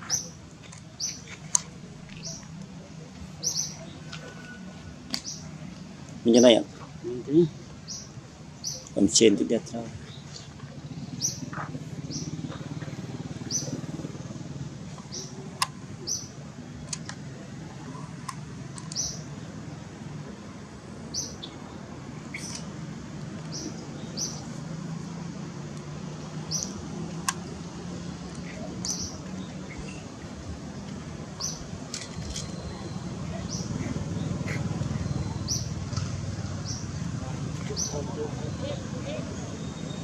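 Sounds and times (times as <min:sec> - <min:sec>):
bird chirping: 0:00.0 - 0:02.5, 0:03.3 - 0:04.6, 0:05.2 - 0:05.6, 0:07.3 - 0:14.2, 0:14.9 - 0:19.8, 0:21.0 - 0:22.7, 0:23.4 - 0:25.2, 0:26.0 - 0:27.4, 0:28.4 - 0:30.2, 0:30.8 - 0:40.0.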